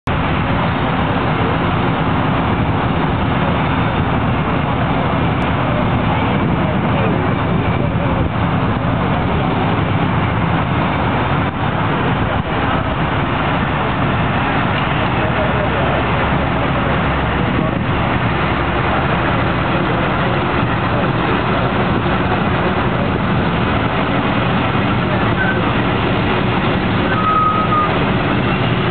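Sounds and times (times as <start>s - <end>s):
radial aircraft engines running: 0.0s - 28.9s.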